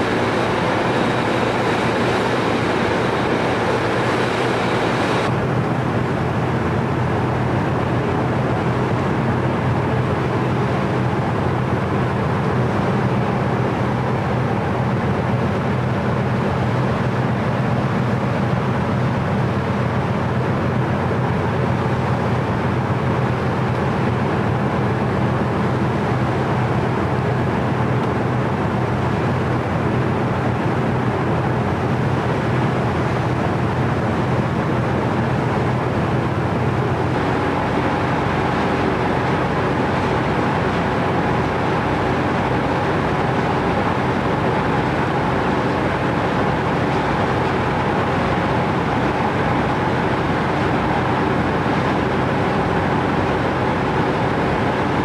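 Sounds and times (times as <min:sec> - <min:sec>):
vehicle engine drone: 0:00.0 - 0:55.0.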